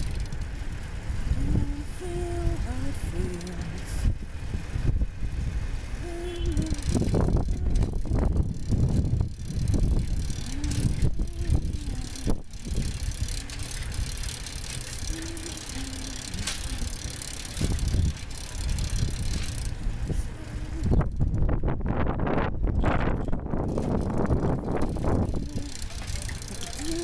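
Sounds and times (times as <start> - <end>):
bike rattling clicks and knocks: 0.0 - 4.2, 6.1 - 21.5, 22.7 - 27.0
bicycle rumble: 0.0 - 27.0.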